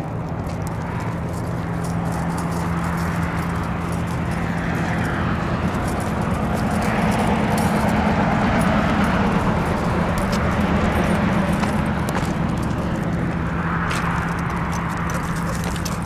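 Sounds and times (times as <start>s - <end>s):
footsteps on pavement: 0.0s - 16.0s
vehicle engine hum: 0.0s - 16.0s.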